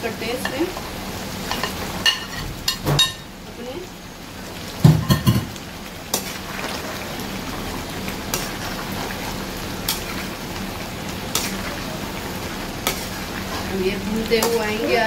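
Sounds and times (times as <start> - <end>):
gravy sizzling: 0.0 - 15.0.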